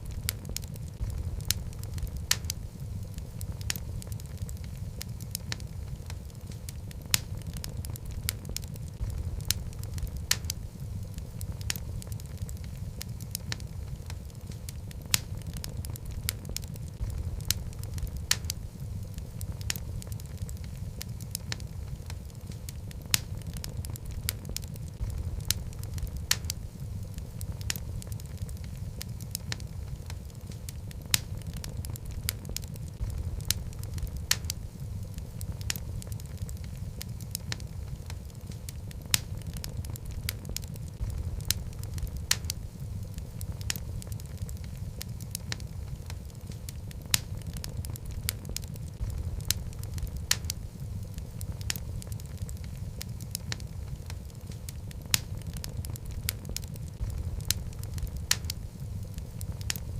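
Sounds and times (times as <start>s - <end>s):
fire rumbling: 0.0s - 59.9s
wood crackling and popping: 0.0s - 59.9s.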